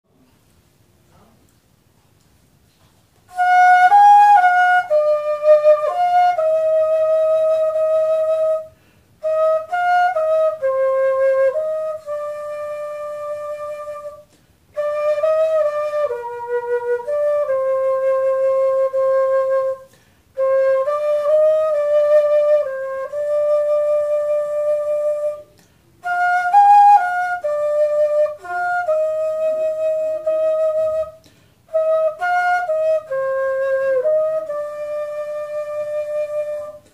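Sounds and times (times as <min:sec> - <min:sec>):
flute playing slow melody: 0:03.3 - 0:36.9.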